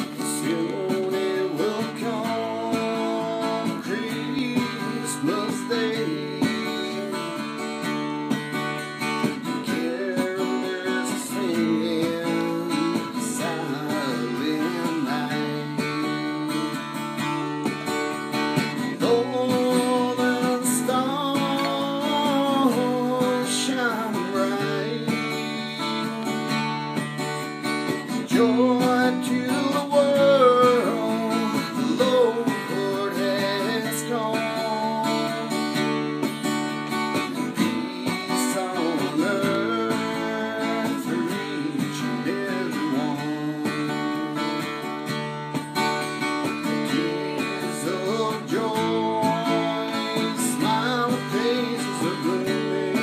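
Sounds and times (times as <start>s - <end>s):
man singing: 0.0s - 8.4s, 9.1s - 45.2s, 45.8s - 53.0s
acoustic guitar chords: 0.0s - 53.0s.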